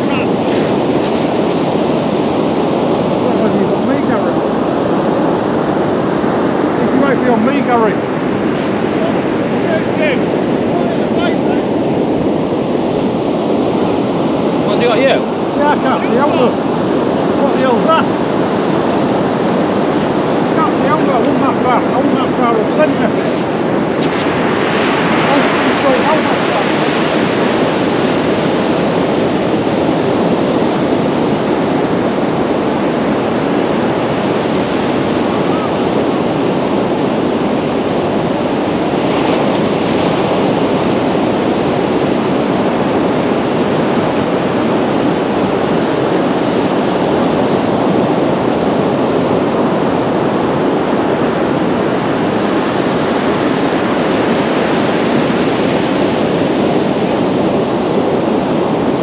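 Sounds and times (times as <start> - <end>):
sea surf washing onto beach: 0.0 - 59.0
wind buffeting microphone: 0.0 - 59.0.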